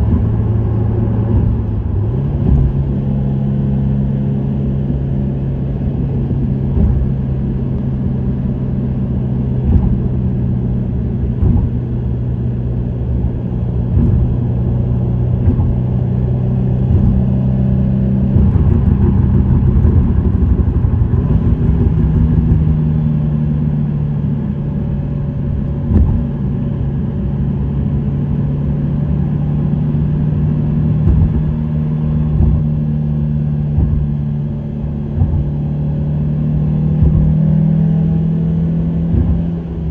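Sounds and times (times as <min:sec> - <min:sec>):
car engine cruising: 0:00.0 - 0:39.9
road rumble: 0:00.0 - 0:39.9.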